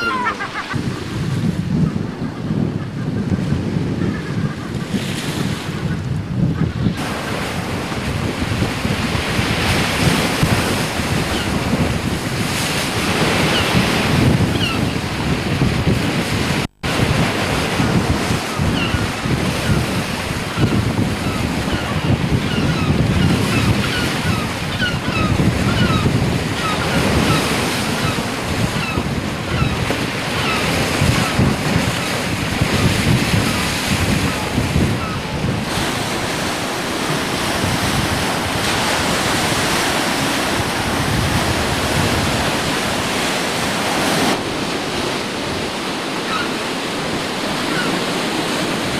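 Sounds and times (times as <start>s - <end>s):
sea surf washing on shore: 0.0s - 48.9s
wind buffeting microphone: 0.0s - 48.9s.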